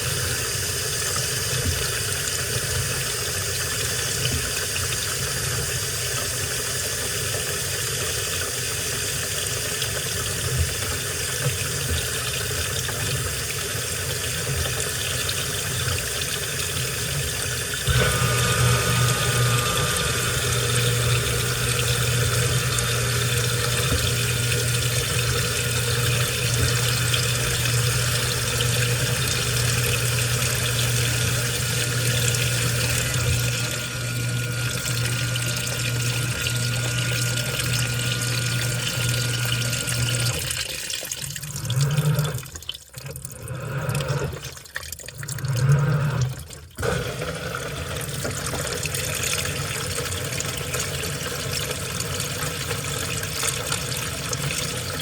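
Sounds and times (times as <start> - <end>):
washing machine hum: 0.0 - 55.0
water flowing in washing machine: 0.0 - 55.0.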